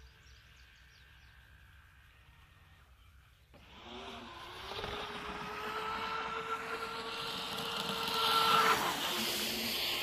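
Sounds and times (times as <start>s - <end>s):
rc boat motor whine: 0.0s - 10.0s.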